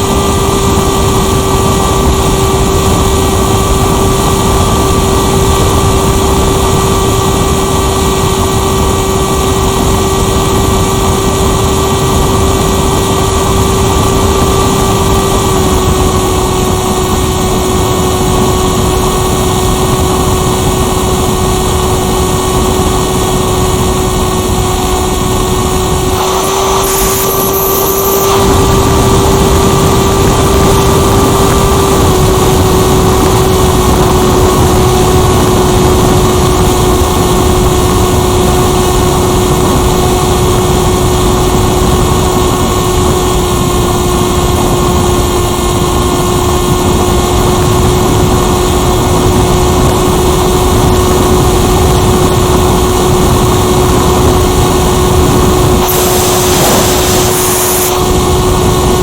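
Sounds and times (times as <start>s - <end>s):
rushing air noise: 0.0s - 42.8s, 46.7s - 59.0s
electric motor and propeller whine: 0.0s - 59.0s.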